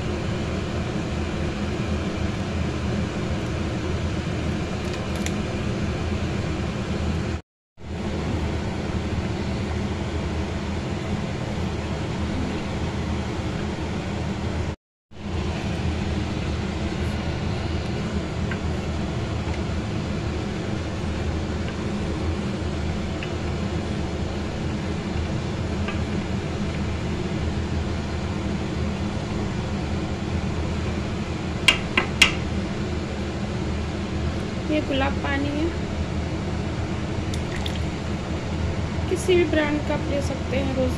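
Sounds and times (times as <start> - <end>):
fan-like hum and hiss: 0.0 - 40.9.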